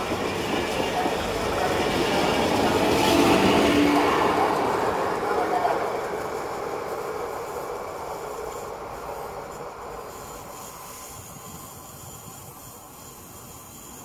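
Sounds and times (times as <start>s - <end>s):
train rail noise: 0.0s - 14.0s.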